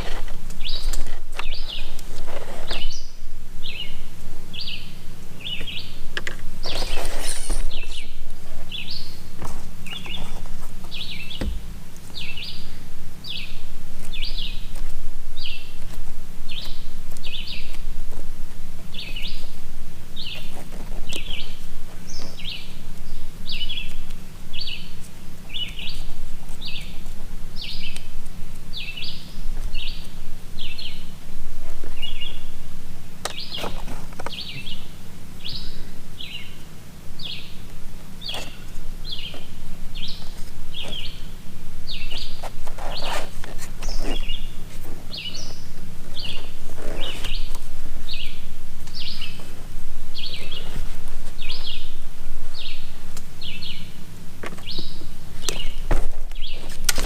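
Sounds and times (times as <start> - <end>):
bird chirping: 0.0 - 17.9, 18.8 - 32.6, 33.2 - 56.8
steady low hum: 0.0 - 57.0.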